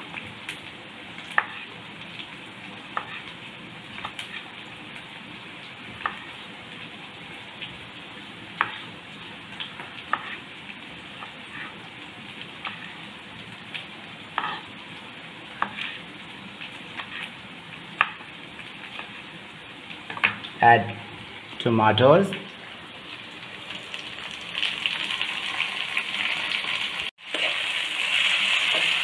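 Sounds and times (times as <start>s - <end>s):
frying sizzle: 0.0s - 29.0s.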